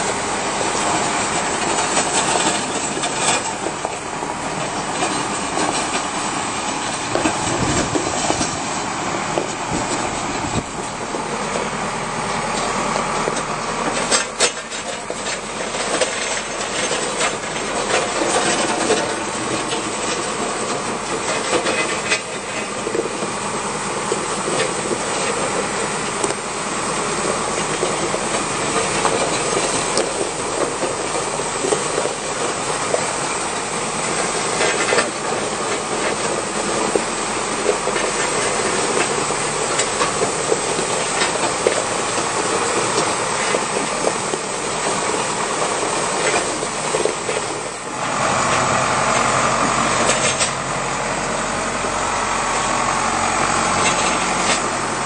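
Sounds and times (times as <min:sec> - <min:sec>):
grader blade scraping gravel: 0:00.0 - 0:55.0
tractor diesel engine running: 0:00.0 - 0:55.0.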